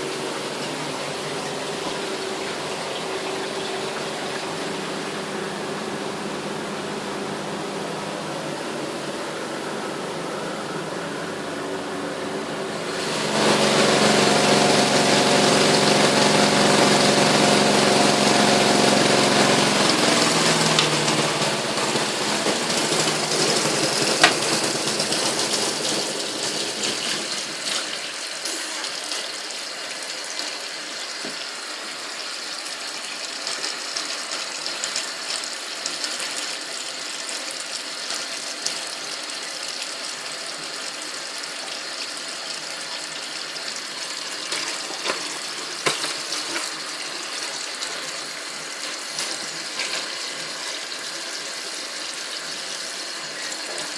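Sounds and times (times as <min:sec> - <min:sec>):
water running in washing machine: 0:00.0 - 0:53.9.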